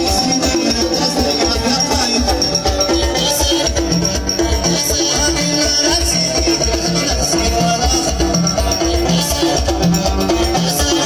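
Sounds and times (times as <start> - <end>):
folk band music: 0.0 - 11.0.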